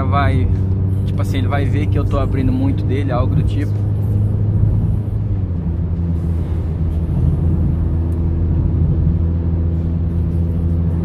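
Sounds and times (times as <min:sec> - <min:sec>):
car engine and tyre drone: 0:00.0 - 0:11.0.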